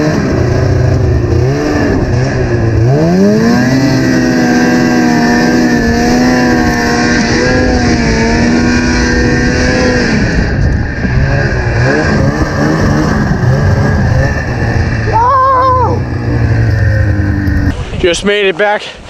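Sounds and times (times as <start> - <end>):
snowmobile engine revving: 0.0 - 18.8.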